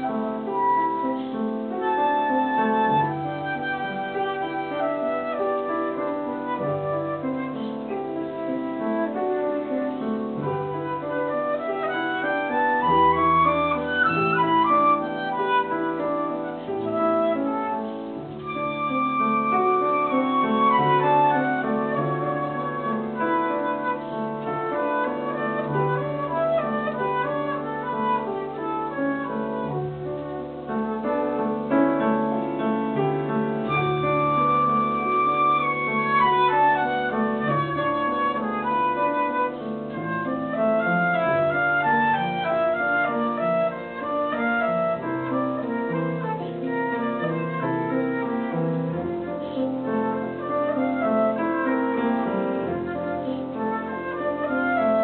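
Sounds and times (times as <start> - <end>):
flute playing a melody: 0.0 - 55.0
piano accompaniment: 0.0 - 55.0.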